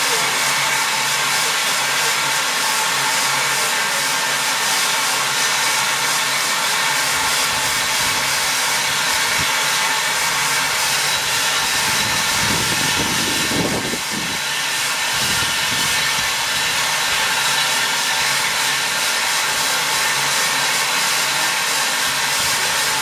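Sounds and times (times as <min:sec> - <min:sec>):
steam hissing from locomotive: 0:00.0 - 0:23.0.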